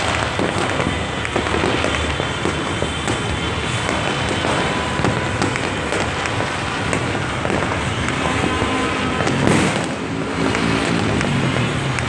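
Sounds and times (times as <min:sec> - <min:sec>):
fireworks crackling: 0:00.0 - 0:12.0
sharp firework pops: 0:00.0 - 0:12.0.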